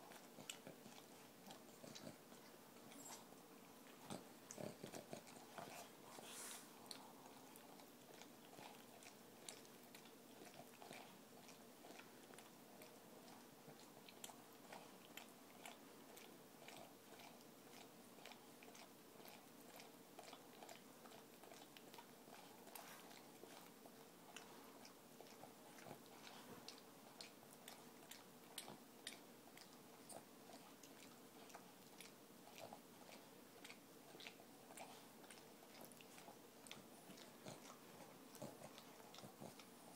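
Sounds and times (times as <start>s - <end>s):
dog licking wet smacking: 0.0s - 39.9s.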